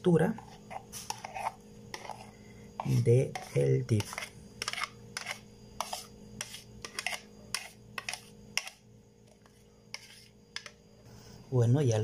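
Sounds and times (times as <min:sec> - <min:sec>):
faint steady hum: 0:00.0 - 0:12.0
spoon scraping plastic bowl: 0:00.3 - 0:10.8.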